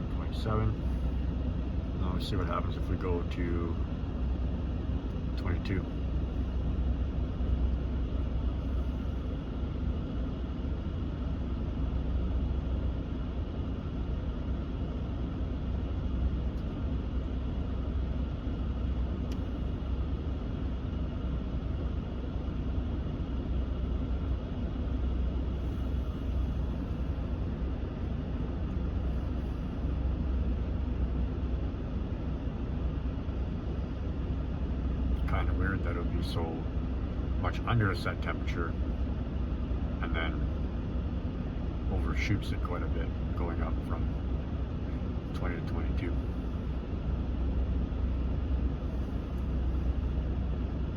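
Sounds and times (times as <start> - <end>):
air rushing from vents: 0.0 - 50.9
low cabin rumble: 0.0 - 50.9.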